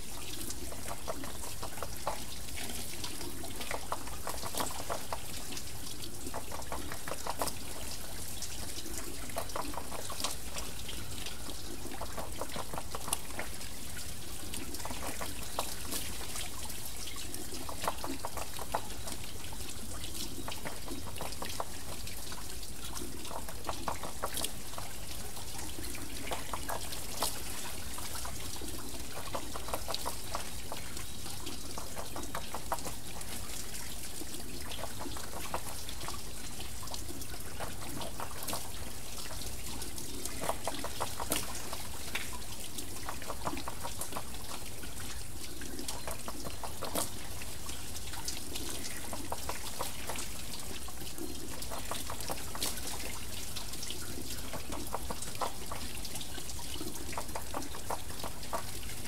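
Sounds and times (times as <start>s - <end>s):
water pouring and splashing: 0.0s - 59.0s
water wheel turning: 0.0s - 59.0s.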